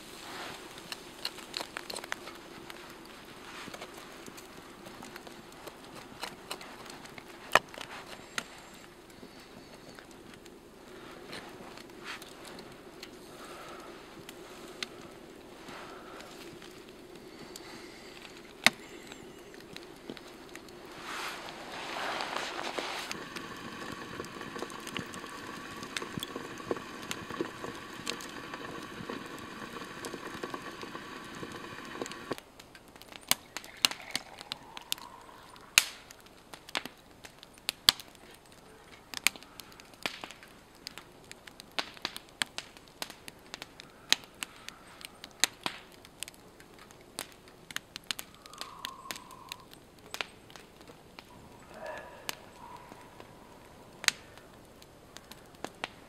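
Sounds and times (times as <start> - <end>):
campfire crackling and popping: 0.0 - 56.0
steady hiss: 0.0 - 56.0.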